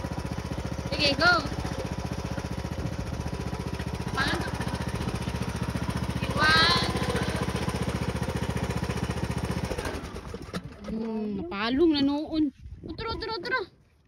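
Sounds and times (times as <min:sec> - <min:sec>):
lawn tractor engine chugging: 0:00.0 - 0:11.7.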